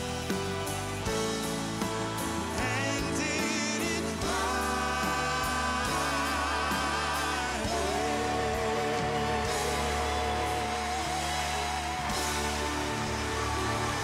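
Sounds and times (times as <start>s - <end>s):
band accompaniment: 0.0s - 14.0s
voices singing long notes: 1.7s - 14.0s.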